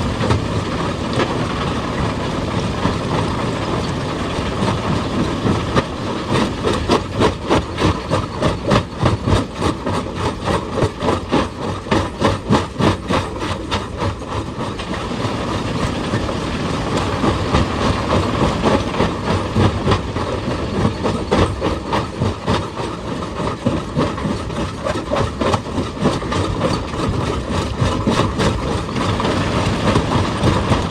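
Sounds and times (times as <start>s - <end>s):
excavator engine rumble: 0.0s - 30.9s.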